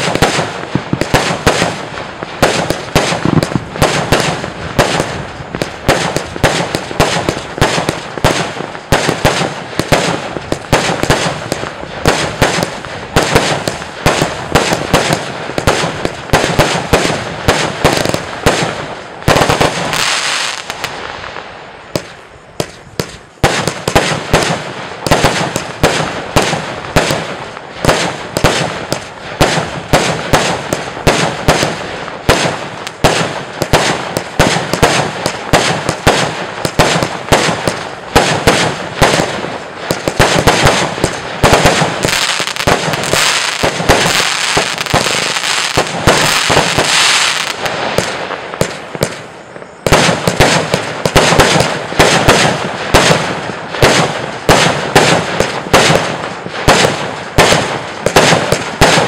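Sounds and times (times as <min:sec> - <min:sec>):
firework cake firing shots: 0:00.0 - 0:21.0, 0:21.9 - 0:59.0
firework hiss: 0:00.0 - 0:59.0.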